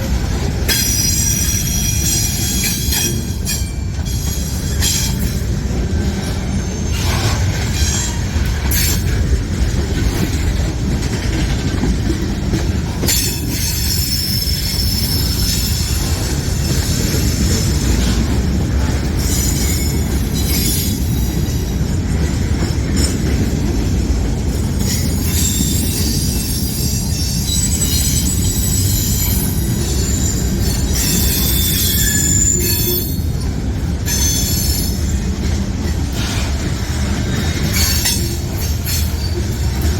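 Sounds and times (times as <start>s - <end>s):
freight train rumbling past: 0.0s - 39.9s
train wheel clicks: 0.4s - 39.9s
train wheels squealing: 0.7s - 9.2s, 13.1s - 23.3s, 24.6s - 39.9s.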